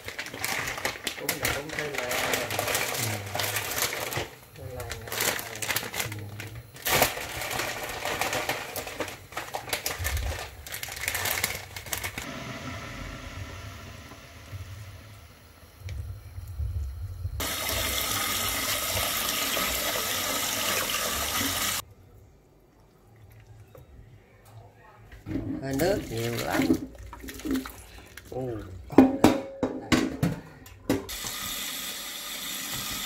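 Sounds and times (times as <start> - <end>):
water boiling and bubbling: 0.0 - 24.3, 25.7 - 28.9.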